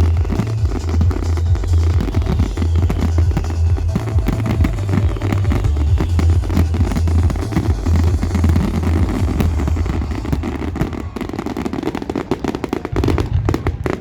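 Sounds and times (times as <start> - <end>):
fireworks bangs and crackles: 0.0 - 14.0
low firework booms: 0.2 - 14.0.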